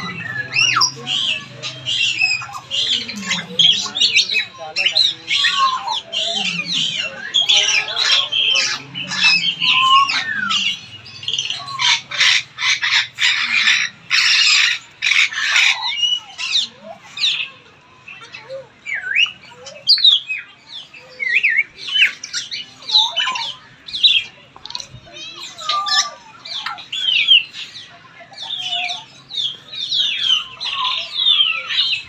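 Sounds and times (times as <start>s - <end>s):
parrots squawking and whistling: 0.0s - 32.0s.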